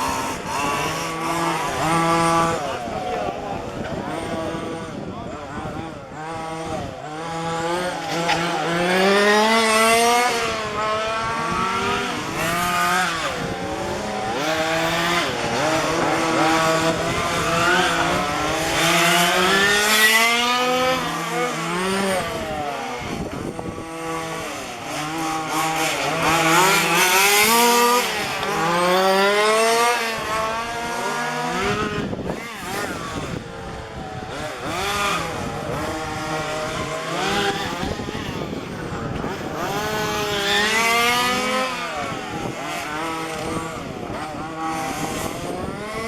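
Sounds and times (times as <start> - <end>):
small two-stroke engines revving: 0.0 - 46.0.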